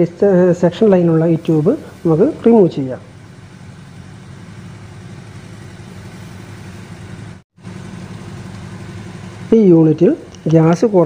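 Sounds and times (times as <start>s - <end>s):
refrigerator compressor humming: 0.0s - 11.0s.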